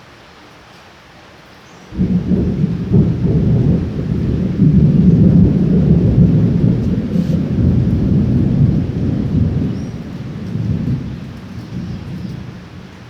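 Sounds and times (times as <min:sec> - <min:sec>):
steady rain: 0:00.0 - 0:13.0
thunder rumbling: 0:01.9 - 0:13.0.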